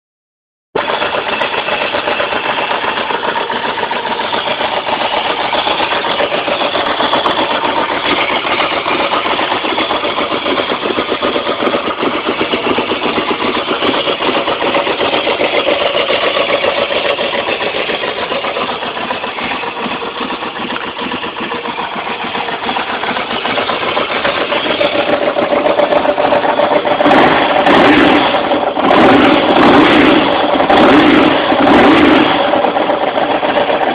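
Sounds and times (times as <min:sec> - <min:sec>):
motorcycle engine idling and revving: 0:00.8 - 0:33.9.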